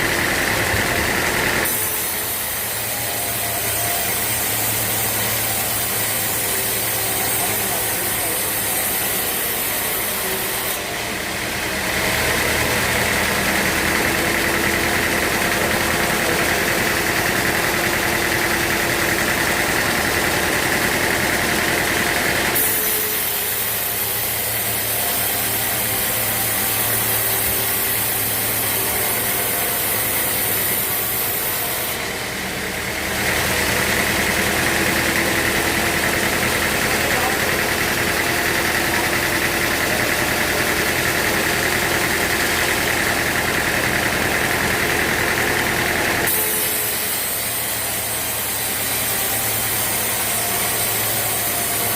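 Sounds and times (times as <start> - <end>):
sawmill machinery sawing logs: 0.0 - 51.9.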